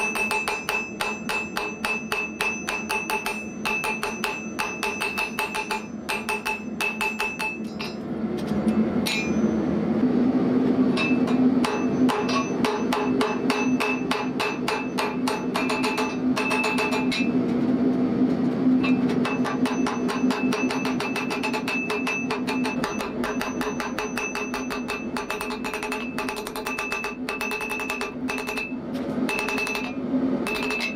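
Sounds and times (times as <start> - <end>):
hammer clanging on anvil: 0.0 - 8.0, 8.7 - 9.6, 10.9 - 17.4, 18.8 - 30.9
steady low hum: 0.0 - 30.9.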